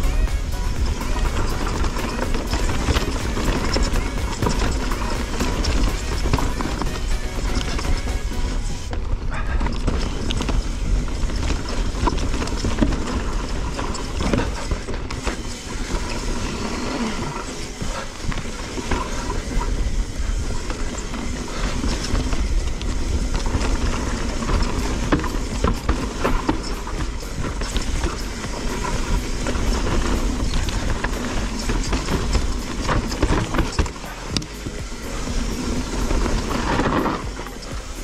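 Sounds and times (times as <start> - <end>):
bike tyres clattering on dirt: 0.0 - 38.0
chain and frame rattling: 0.0 - 38.0
wind rumble: 0.0 - 38.0.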